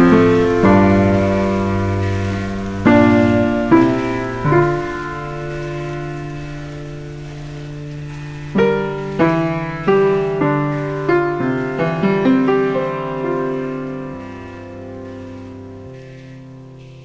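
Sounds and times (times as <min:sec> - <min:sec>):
faint rain-like hiss: 0:00.0 - 0:17.0
gentle piano music: 0:00.0 - 0:17.0.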